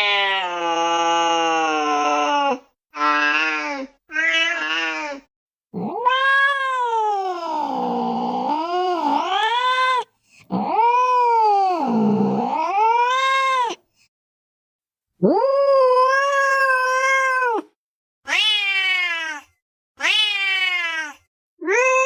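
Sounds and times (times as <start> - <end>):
cat yowling: 0.0 - 5.2, 5.8 - 13.8, 15.2 - 22.0.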